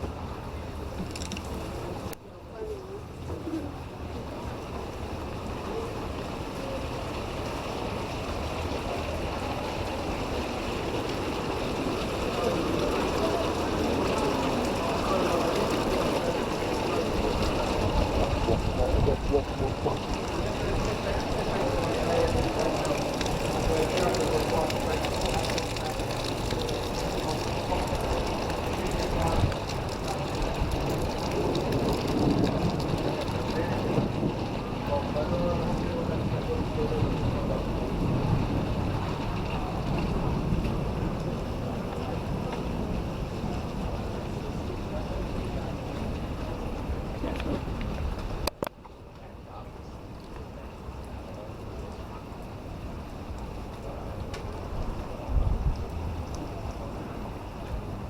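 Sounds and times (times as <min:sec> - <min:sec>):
faint voices: 0:00.0 - 0:58.0
steady rain falling: 0:00.0 - 0:58.0
traffic passing: 0:00.0 - 0:58.0
wet road noise: 0:00.0 - 0:58.0.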